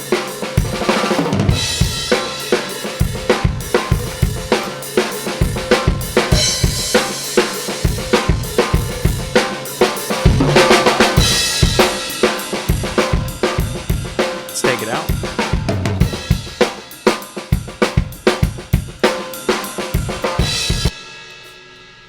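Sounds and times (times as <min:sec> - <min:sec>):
drum kit playing steady beat: 0:00.0 - 0:21.6.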